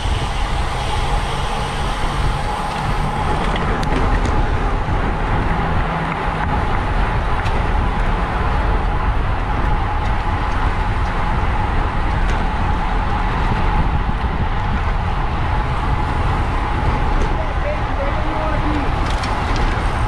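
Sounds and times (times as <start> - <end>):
tyres on road: 0.0 - 20.0
wind rush: 0.0 - 20.0.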